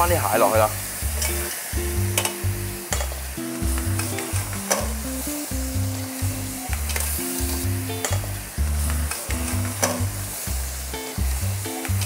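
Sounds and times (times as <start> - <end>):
background music with bass line: 0.0 - 12.0
crab sizzling in sauce: 0.1 - 12.0.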